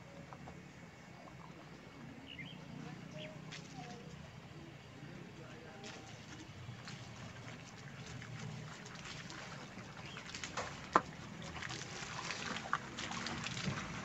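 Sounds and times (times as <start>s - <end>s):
tyres splashing through puddles: 0.0s - 14.0s.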